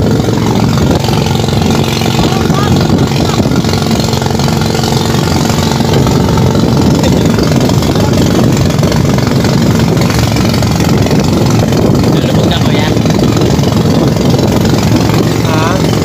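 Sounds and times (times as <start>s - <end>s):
small boat engine running: 0.0s - 16.0s
water splashing: 0.0s - 16.0s.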